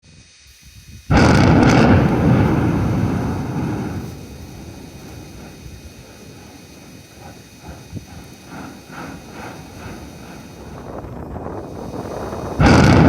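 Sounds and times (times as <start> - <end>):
loud boom with deep rumble: 1.1 - 13.0.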